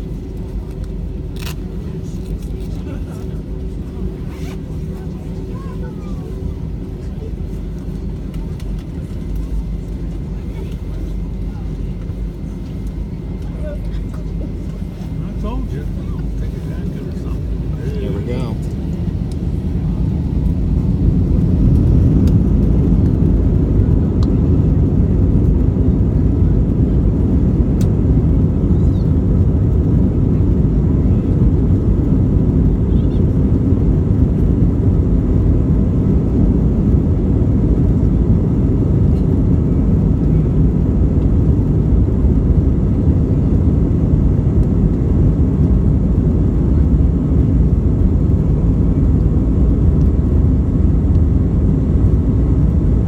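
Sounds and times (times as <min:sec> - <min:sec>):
jet engines deep rumble: 0:00.0 - 0:53.0.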